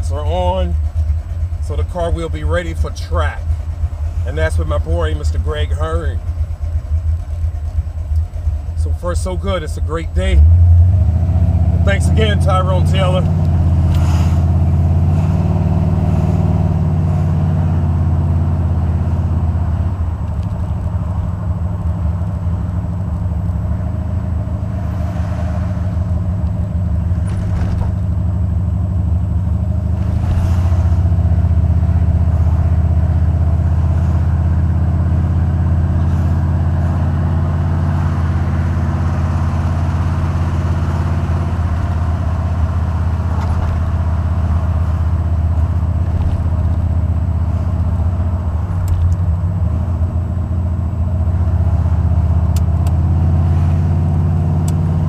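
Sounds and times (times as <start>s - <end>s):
engine running with low exhaust: 0.0s - 55.0s.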